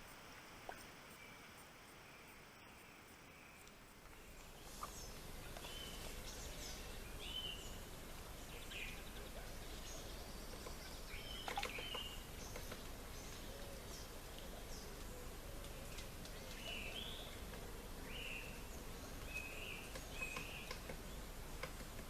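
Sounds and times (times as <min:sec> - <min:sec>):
wild birds singing: 0:00.7 - 0:22.0.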